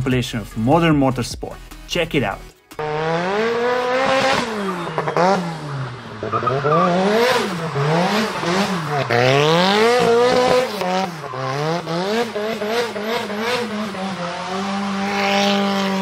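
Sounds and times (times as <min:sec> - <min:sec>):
car engine revving: 0:02.7 - 0:16.0.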